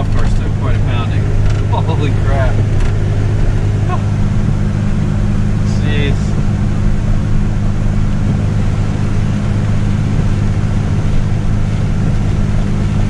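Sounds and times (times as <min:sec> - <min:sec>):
road and tyre noise: 0:00.0 - 0:13.0
truck engine hum: 0:00.0 - 0:13.0.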